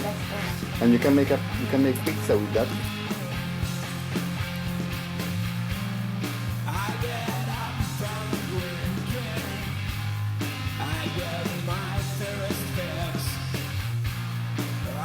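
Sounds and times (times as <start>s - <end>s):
rock song with singing: 0.0s - 15.0s
steady bass line: 0.0s - 15.0s.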